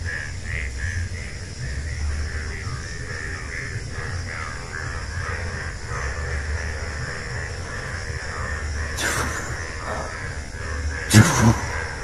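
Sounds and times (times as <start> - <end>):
steady low rumble: 1.2 - 12.0.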